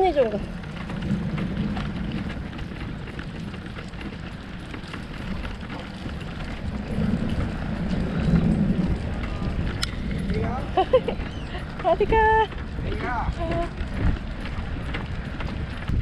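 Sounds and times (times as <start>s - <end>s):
bicycle tyre and road rumble: 0.0s - 16.0s
small rattles and clicks: 0.0s - 16.0s
wind buffeting microphone: 0.0s - 16.0s.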